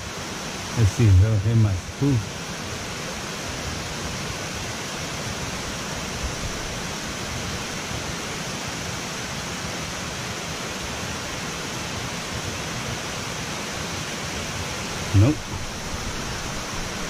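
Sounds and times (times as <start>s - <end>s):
water rushing through spillway: 0.0s - 17.0s.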